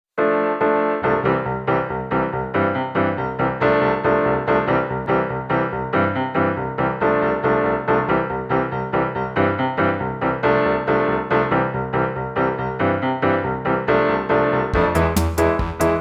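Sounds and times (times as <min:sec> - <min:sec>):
upbeat piano music: 0:00.2 - 0:16.0.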